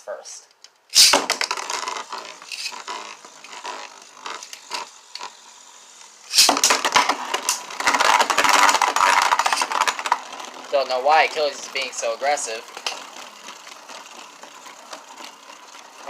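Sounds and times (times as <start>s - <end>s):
spinning top launch: 0.9s - 16.0s
spinning tops clashing: 0.9s - 16.0s
spinning tops scraping: 0.9s - 16.0s.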